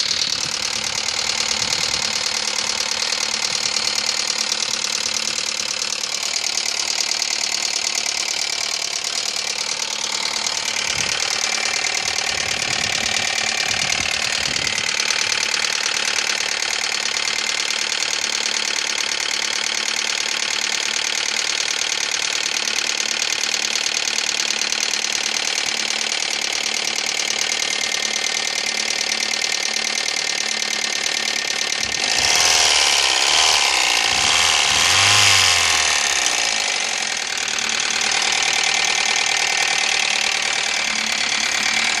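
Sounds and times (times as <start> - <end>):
car engine ticking and knocking: 0.0 - 42.0.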